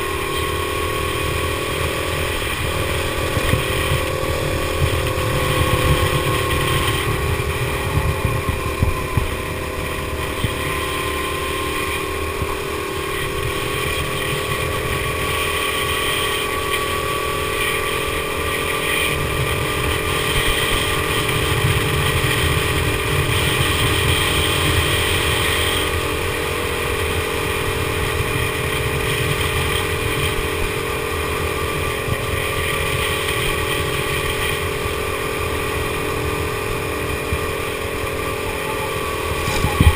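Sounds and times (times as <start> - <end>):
go-kart engine running: 0.0 - 39.9
wind rumble on microphone: 0.0 - 39.9.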